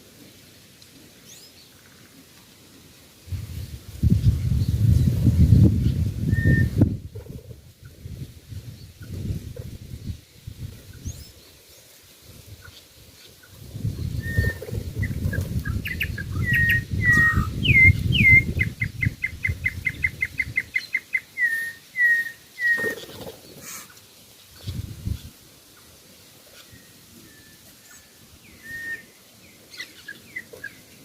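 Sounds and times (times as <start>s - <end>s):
songbird singing: 1.0s - 31.0s.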